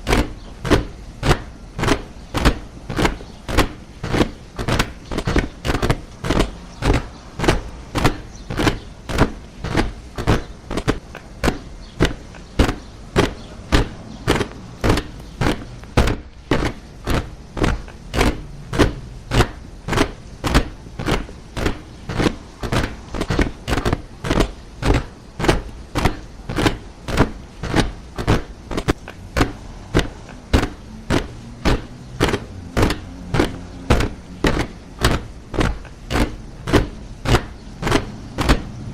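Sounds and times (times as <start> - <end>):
boots marching in step: 0.0 - 38.9.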